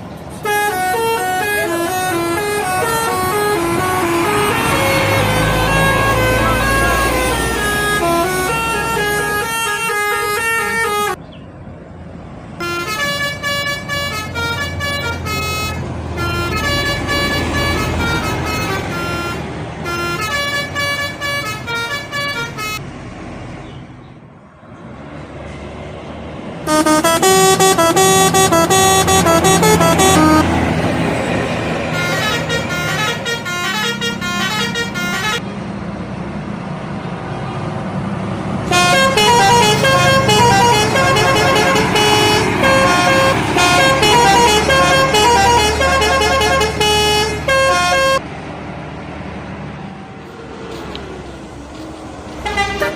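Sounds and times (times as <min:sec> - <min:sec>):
bus multi-tone horns melody: 0:00.0 - 0:11.3, 0:12.6 - 0:22.9, 0:26.6 - 0:35.7, 0:38.3 - 0:48.3, 0:50.2 - 0:52.9
low vehicle rumble: 0:00.0 - 0:52.9.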